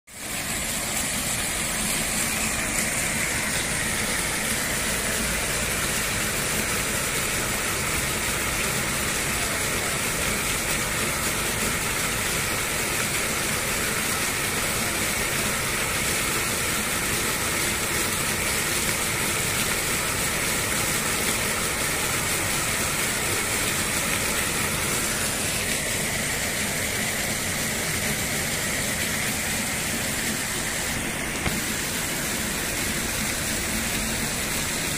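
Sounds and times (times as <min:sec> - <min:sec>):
fountain jets splashing into pool: 0:00.1 - 0:34.9.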